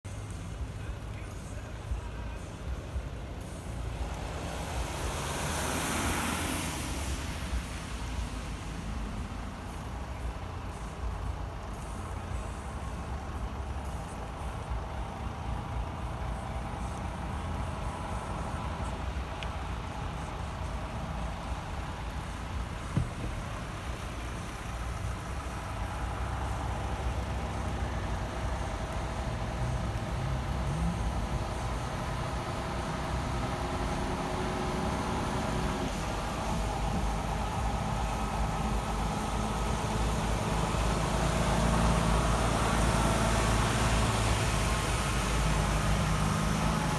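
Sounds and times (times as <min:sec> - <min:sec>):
road noise: 0:00.0 - 0:46.9
truck engine rumble: 0:00.0 - 0:46.9.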